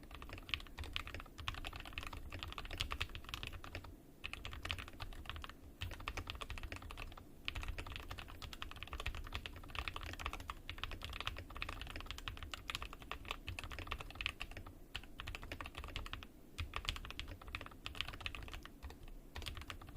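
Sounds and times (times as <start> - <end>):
fast typing on mechanical keyboard: 0.0 - 19.9.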